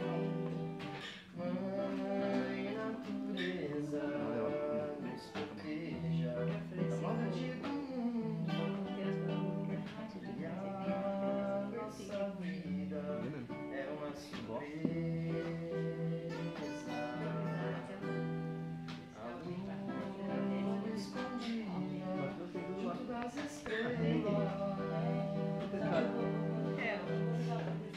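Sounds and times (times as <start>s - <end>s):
acoustic guitars playing: 0.0s - 27.9s.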